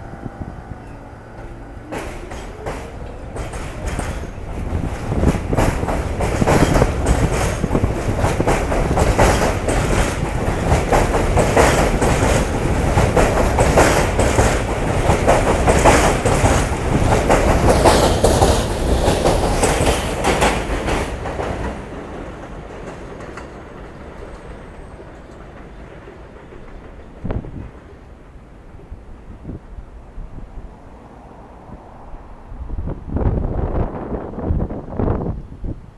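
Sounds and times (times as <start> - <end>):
train wheels clacking over rail joints: 0.0 - 29.6
train rumble: 0.0 - 35.9.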